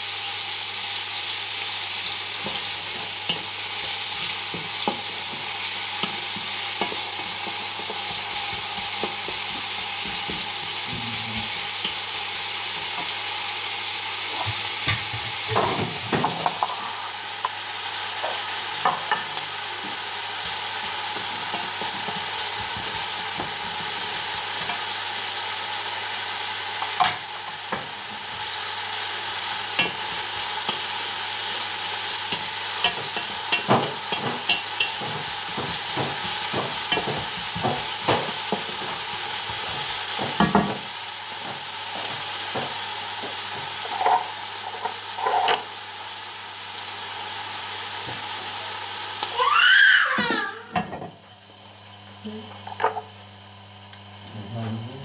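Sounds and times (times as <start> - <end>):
onions sizzling in a pot: 0.0 - 55.0.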